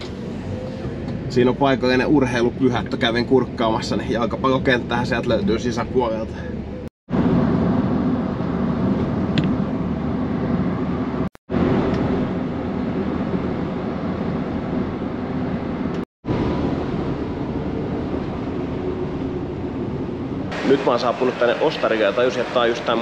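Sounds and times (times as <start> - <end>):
road and engine noise inside car: 0.0 - 20.6.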